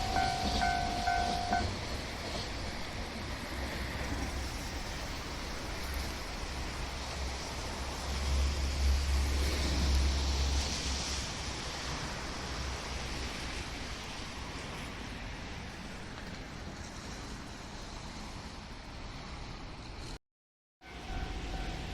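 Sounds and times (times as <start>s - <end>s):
outdoor background noise: 0.0s - 20.2s
vehicle rumble and tyre hiss: 0.0s - 20.2s.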